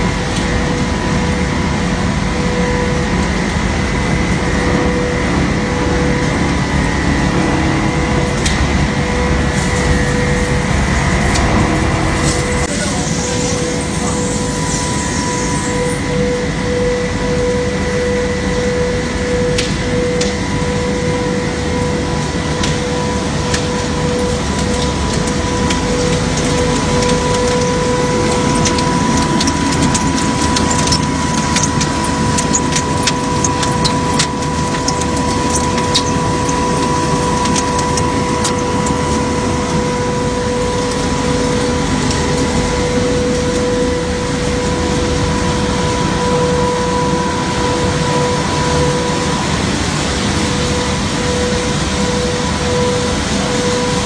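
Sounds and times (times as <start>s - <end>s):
recycling machinery running: 0.0s - 54.0s.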